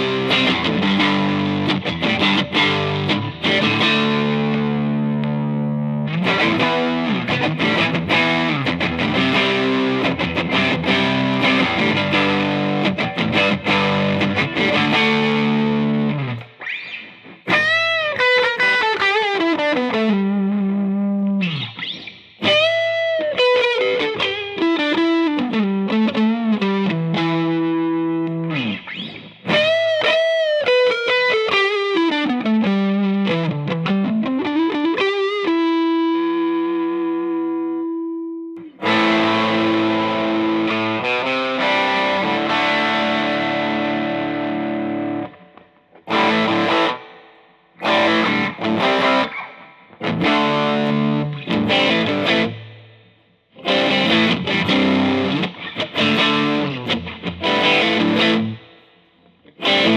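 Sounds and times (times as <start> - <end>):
electric guitar gliding single notes: 0.0 - 52.9, 53.6 - 58.9, 59.5 - 59.9
distorted electric guitar chords: 0.0 - 59.9.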